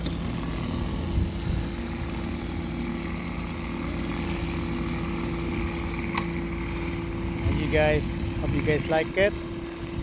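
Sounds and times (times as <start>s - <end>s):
pressure washer engine running: 0.0s - 10.0s.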